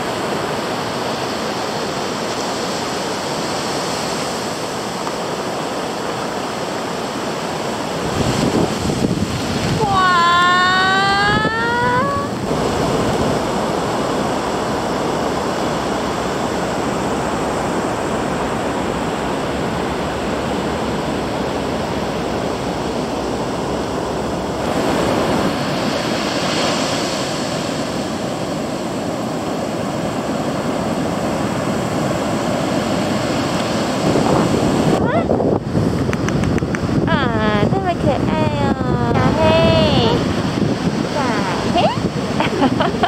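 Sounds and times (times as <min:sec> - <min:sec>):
ocean surf breaking: 0:00.0 - 0:43.0.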